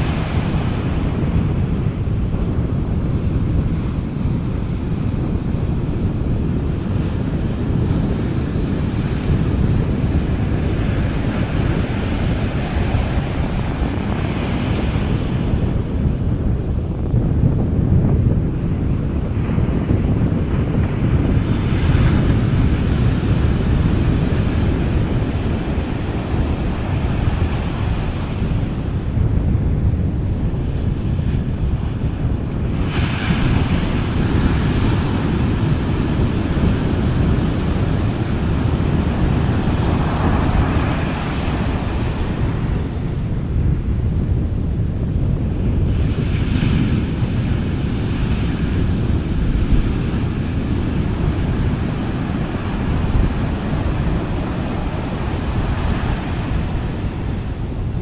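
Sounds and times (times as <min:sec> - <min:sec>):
wind rumble on microphone: 0:00.0 - 0:58.0
sea waves washing onto beach: 0:05.6 - 0:16.6, 0:18.6 - 0:58.0.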